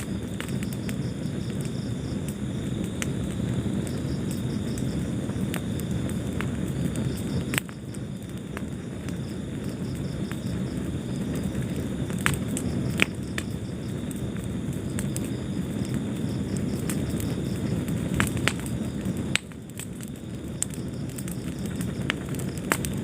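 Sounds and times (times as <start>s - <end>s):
fire crackling and popping: 0.0s - 23.0s
wood fire flames rumbling: 0.0s - 23.0s.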